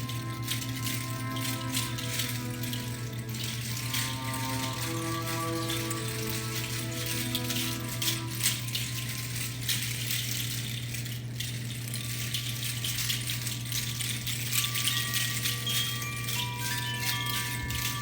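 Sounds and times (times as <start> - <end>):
steady low drone: 0.0 - 16.7
hand rattle shaking: 0.0 - 18.0.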